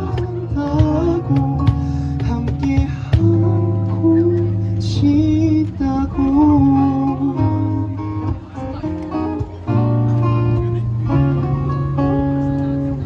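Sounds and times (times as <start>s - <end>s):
live band playing instrumental: 0.0s - 13.0s.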